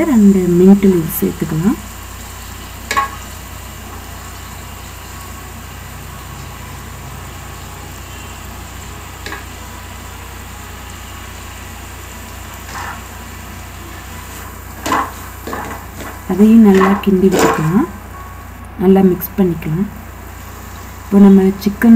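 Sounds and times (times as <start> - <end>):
food cooking hiss and hum: 0.0 - 21.9.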